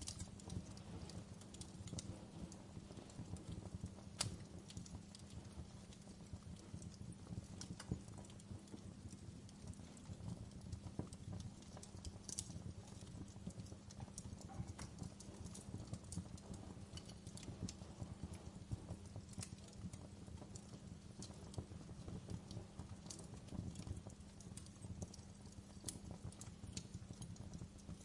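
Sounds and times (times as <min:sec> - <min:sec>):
sharp pops and snaps: 0:00.0 - 0:28.0
wood fire crackling: 0:00.0 - 0:28.0.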